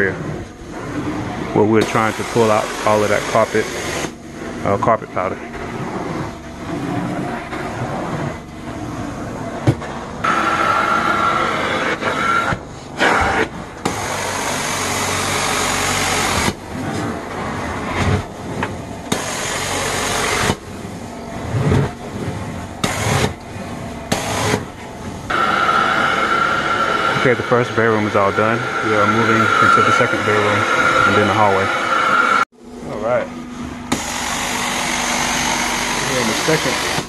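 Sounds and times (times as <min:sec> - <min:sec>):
carpet cleaner suction: 0:00.2 - 0:32.4, 0:33.9 - 0:37.0.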